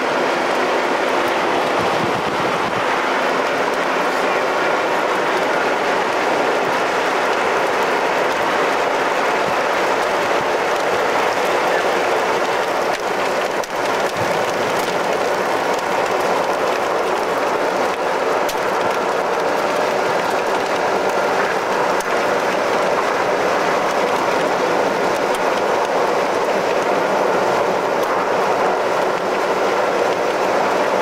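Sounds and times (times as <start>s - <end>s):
road and wind noise inside car: 0.0s - 31.0s.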